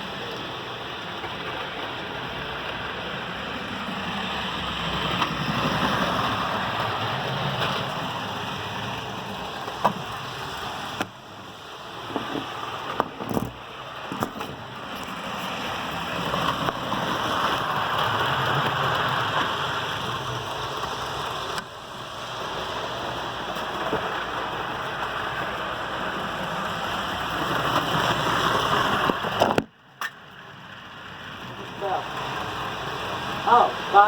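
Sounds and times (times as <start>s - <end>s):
model train whirring rumble: 0.0s - 34.0s.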